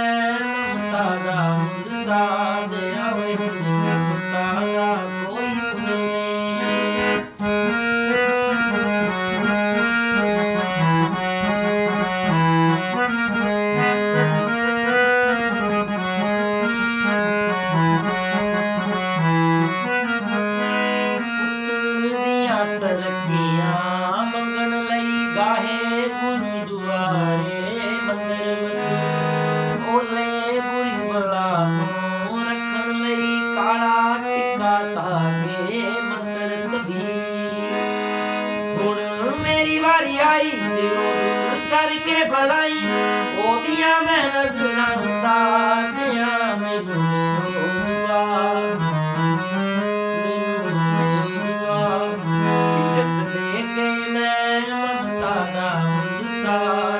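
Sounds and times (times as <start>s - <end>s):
harmonium melody: 0.0s - 56.9s
man singing: 0.0s - 56.9s.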